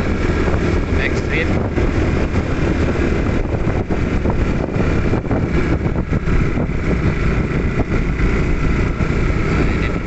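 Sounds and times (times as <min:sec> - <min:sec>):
vehicle engine running: 0:00.0 - 0:10.0
wind buffeting microphone: 0:00.0 - 0:10.0.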